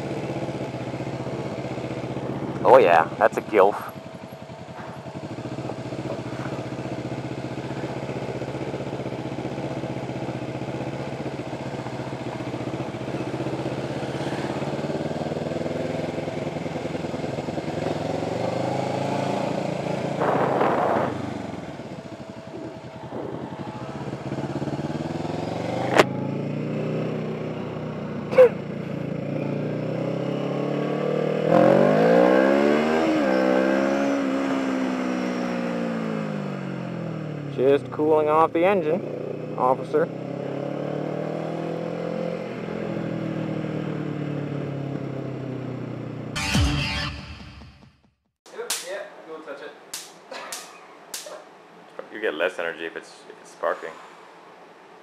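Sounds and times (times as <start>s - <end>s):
motorcycle engine running: 0.0s - 48.2s.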